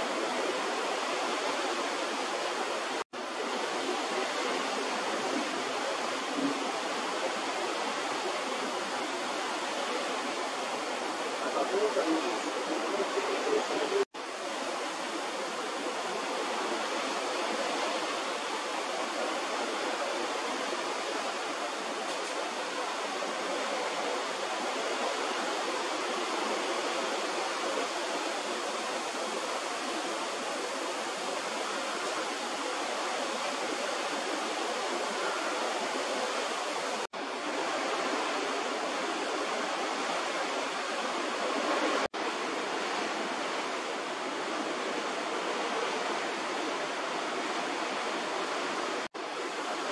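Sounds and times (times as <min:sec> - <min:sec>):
wind and sea rushing: 0:00.0 - 0:49.9.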